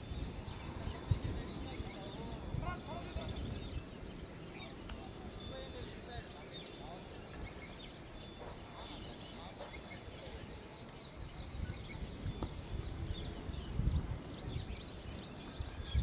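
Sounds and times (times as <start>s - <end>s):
small birds chirping: 0.0s - 16.0s
wind rumbling on microphone: 0.0s - 16.0s.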